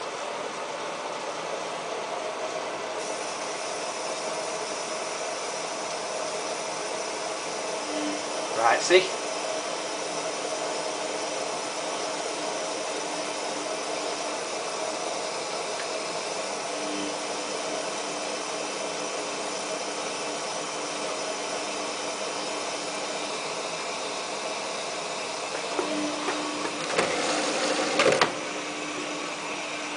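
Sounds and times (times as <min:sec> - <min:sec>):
washing machine filling with water: 0:00.0 - 0:29.9.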